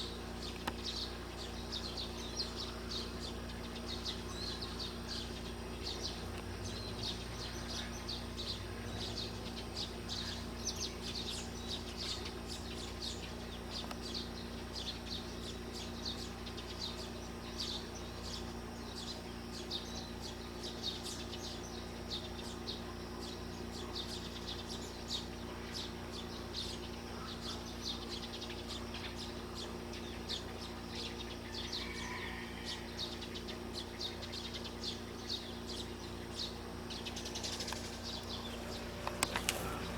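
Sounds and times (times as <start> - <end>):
birds chirping: 0.0 - 39.9
steady low hum: 0.0 - 39.9.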